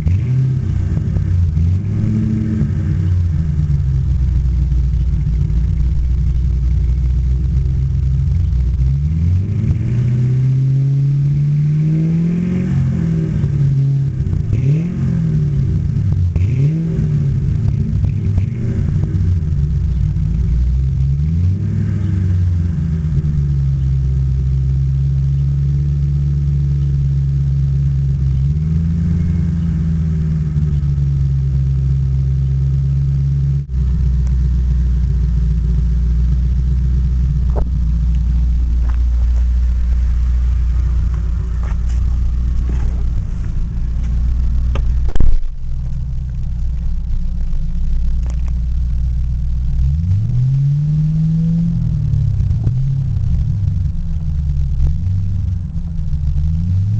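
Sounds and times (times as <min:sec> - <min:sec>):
open exhaust engine rumble: 0:00.0 - 0:56.9.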